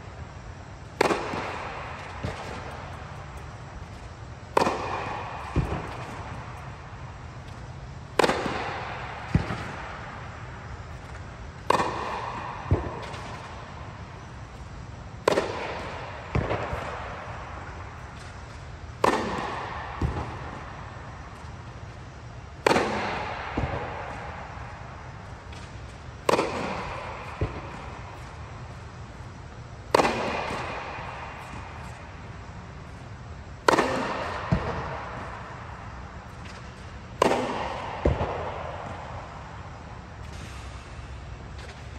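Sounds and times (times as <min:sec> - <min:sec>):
racket striking tennis ball: 0:00.8 - 0:41.9.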